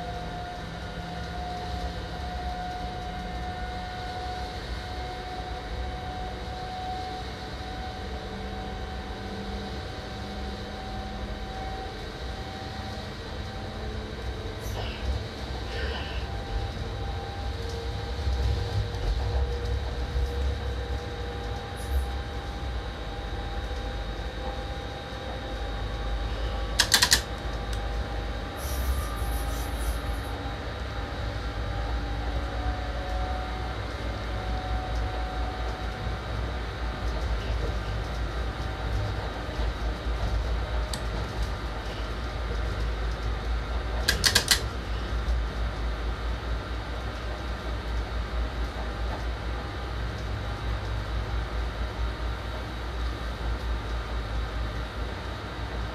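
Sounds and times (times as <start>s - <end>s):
electric train rumbling: 0.0s - 55.9s.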